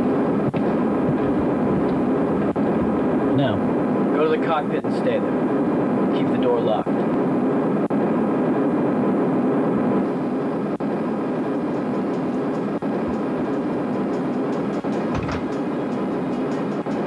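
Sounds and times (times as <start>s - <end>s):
jet engines droning in cabin: 0.0s - 17.0s.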